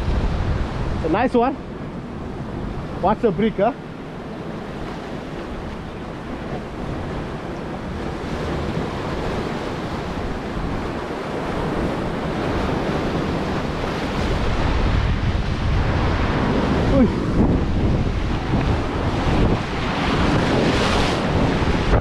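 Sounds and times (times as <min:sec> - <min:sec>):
surf breaking on shore: 0:00.0 - 0:22.0
wind buffeting microphone: 0:00.0 - 0:22.0.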